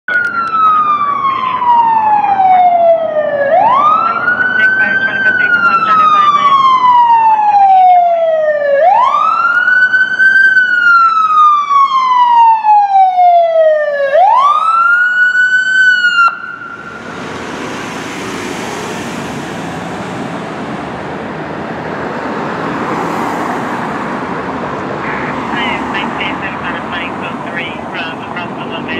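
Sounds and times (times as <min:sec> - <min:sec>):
ambulance siren wailing: 0:00.1 - 0:21.2, 0:22.2 - 0:28.9
engine and road noise: 0:00.1 - 0:28.9.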